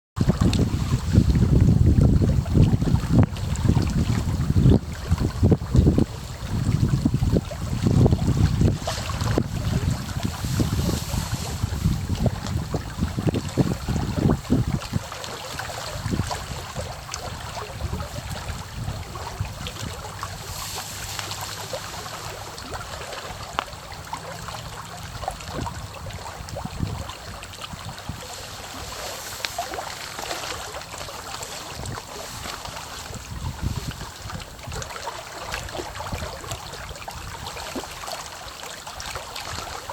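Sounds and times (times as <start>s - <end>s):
wind buffeting microphone: 0.2s - 24.0s, 24.6s - 37.8s
small splashes and trickles: 0.2s - 39.9s
water lapping against bank: 0.2s - 39.9s.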